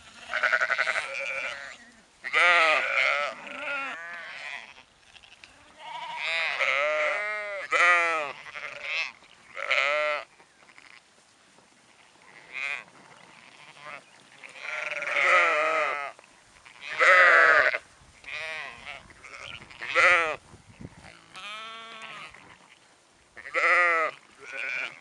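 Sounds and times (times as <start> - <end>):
sheep bleating: 0.0 - 11.0, 12.0 - 20.4, 21.0 - 22.8, 23.4 - 25.0.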